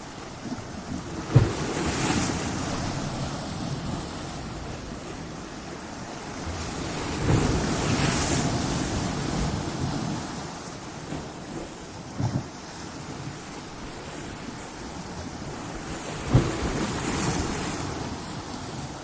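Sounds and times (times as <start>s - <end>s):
ocean waves crashing: 0.0s - 19.0s.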